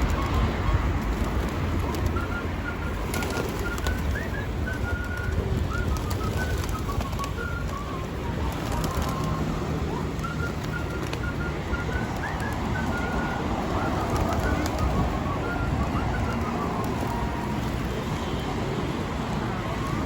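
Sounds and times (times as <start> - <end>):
wing flaps and clicks: 0.0 - 18.2
pigeons chirping: 0.0 - 20.0.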